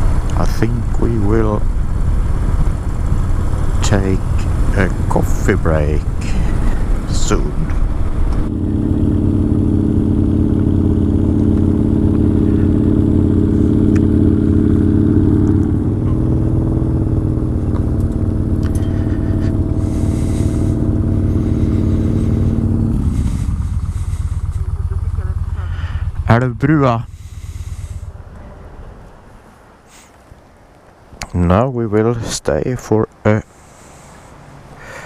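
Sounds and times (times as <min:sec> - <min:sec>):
motorcycle engine running: 0:00.0 - 0:28.5.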